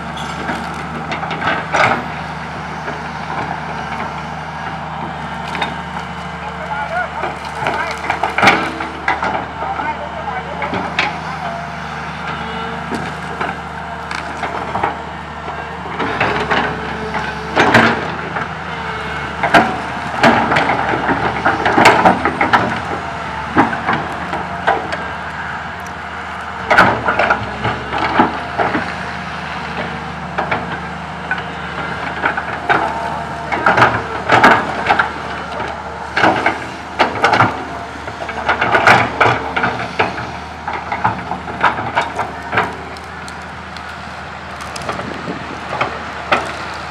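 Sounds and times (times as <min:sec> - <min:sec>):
excavator diesel engine running: 0:00.0 - 0:46.9
branches cracking and snapping: 0:00.2 - 0:09.7, 0:10.7 - 0:46.9.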